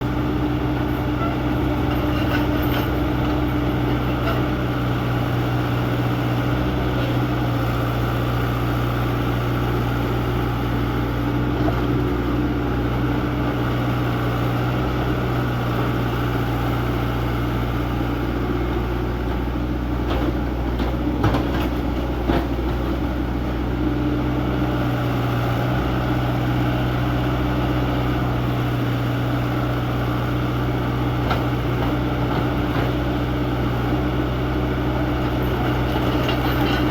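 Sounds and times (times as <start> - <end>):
excavator engine running: 0.0 - 36.9.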